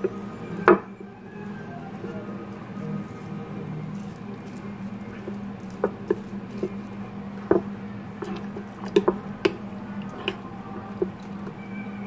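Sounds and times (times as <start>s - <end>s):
spoon stirring batter: 0.9s - 11.7s.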